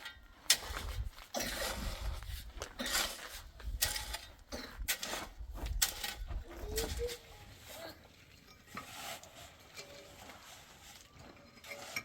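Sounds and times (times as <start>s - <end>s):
hand tool scraping wet mortar: 0.0s - 12.0s.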